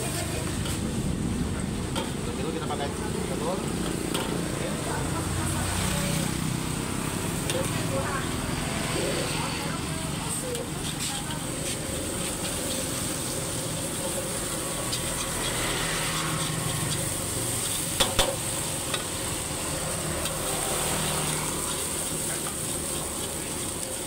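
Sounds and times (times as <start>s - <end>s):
ladle scraping wok: 0.0s - 2.4s, 3.2s - 24.0s
eggs sizzling in wok: 0.0s - 24.0s.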